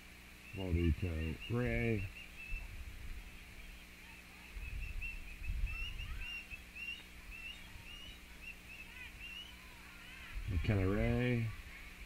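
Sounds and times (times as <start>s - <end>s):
high bird-like chirps: 0.4s - 10.2s.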